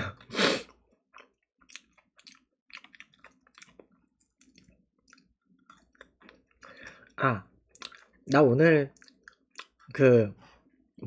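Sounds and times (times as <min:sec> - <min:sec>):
person chewing: 0:00.4 - 0:10.0.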